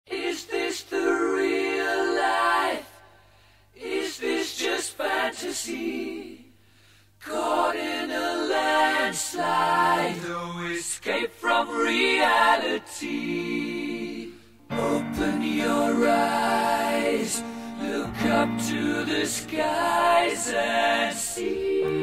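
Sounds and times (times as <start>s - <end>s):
a cappella vocal harmony: 0.1s - 22.0s.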